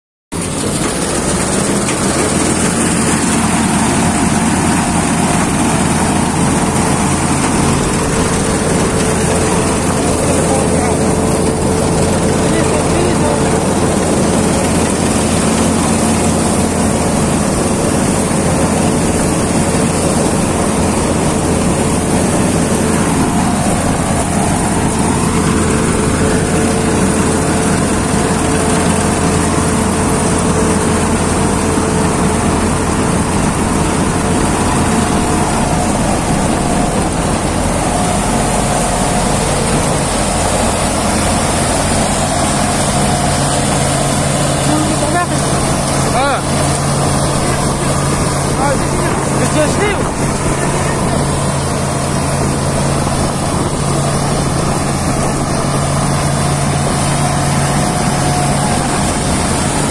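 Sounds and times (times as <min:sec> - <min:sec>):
combine harvester droning: 0:00.3 - 0:59.9.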